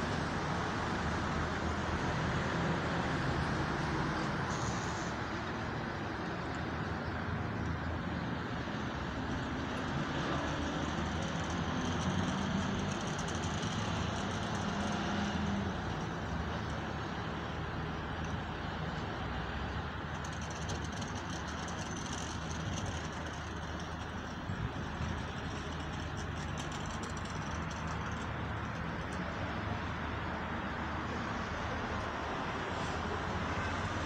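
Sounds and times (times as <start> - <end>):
distant road traffic: 0.0 - 34.0.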